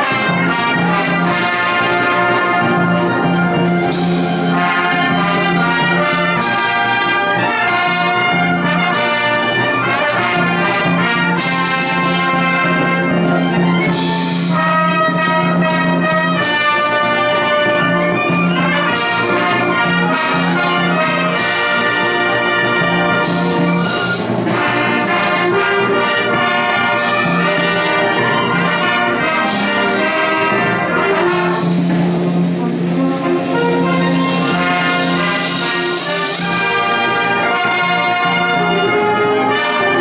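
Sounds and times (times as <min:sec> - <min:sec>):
wind band playing march: 0:00.0 - 0:40.0.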